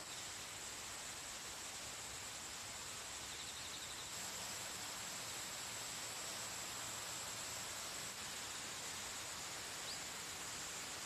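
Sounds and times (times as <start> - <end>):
even hiss: 0.0 - 11.0
insect drone: 0.0 - 11.0.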